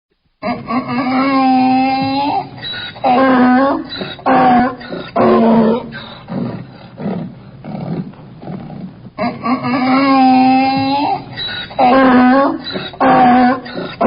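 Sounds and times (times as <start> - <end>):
donkey braying: 0.4 - 14.0.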